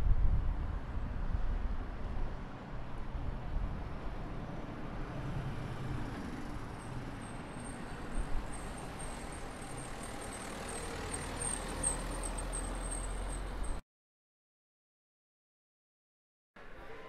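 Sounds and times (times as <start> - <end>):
traffic rumble: 0.1 - 13.8.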